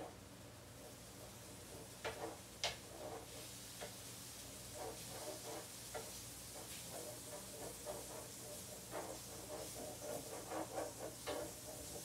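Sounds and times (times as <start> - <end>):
meat frying with faint sizzle: 0.0 - 12.0.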